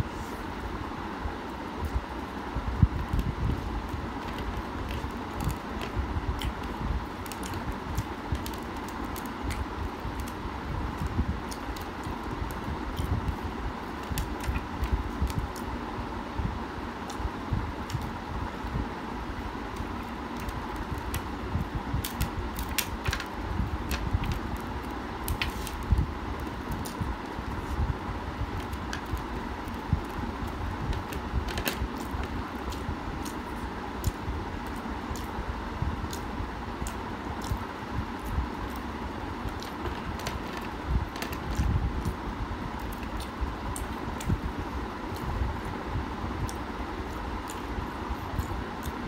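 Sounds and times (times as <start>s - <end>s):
steady background hum: 0.0s - 49.0s.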